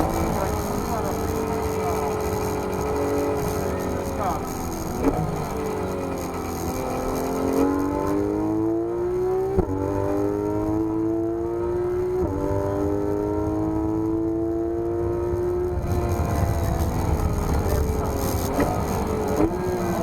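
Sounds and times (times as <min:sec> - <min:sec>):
sports car engine accelerating: 0:00.0 - 0:20.0.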